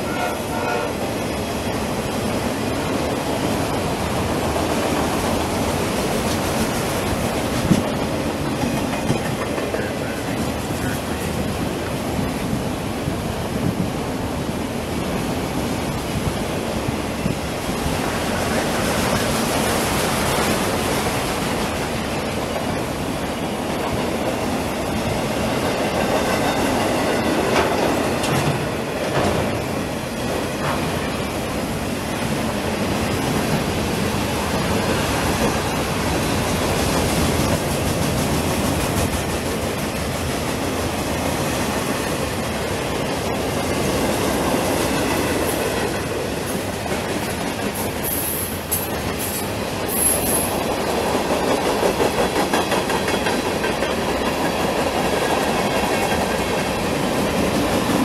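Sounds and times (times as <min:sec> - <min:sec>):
freight train rumble and rattle: 0:00.0 - 0:58.0.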